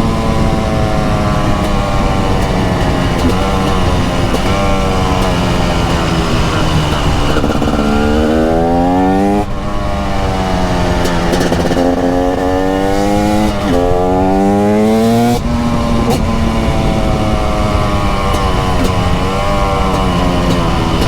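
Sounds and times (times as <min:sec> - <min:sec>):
two-stroke engine accelerating: 0:00.0 - 0:21.0.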